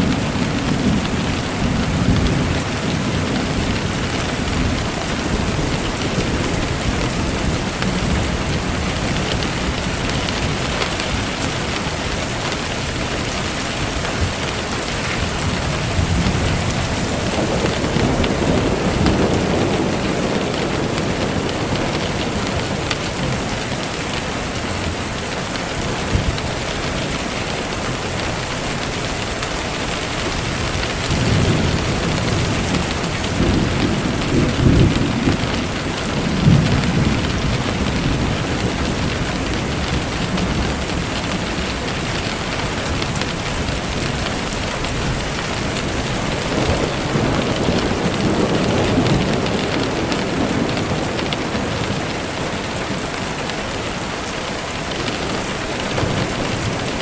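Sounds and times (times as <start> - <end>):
low rolling thunder: 0.0 - 57.0
steady rain falling: 0.0 - 57.0.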